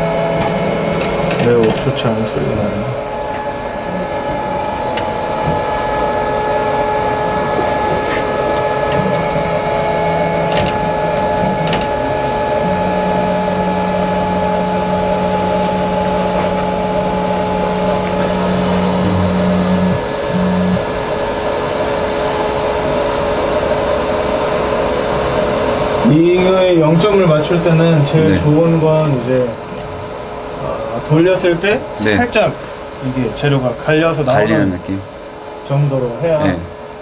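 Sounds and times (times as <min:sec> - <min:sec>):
low motor drone: 0:00.0 - 0:37.0
router high-pitched hum: 0:00.0 - 0:37.0.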